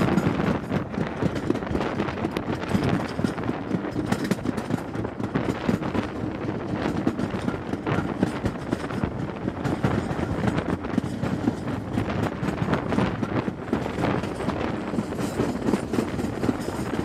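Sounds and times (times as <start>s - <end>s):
train running rumble: 0.0s - 17.0s
wheels clicking on track: 0.0s - 17.0s.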